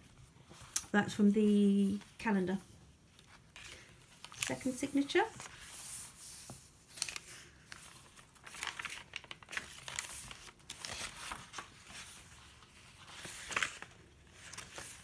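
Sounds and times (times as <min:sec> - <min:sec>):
paper pages rustling and crinkling: 0:00.0 - 0:15.0.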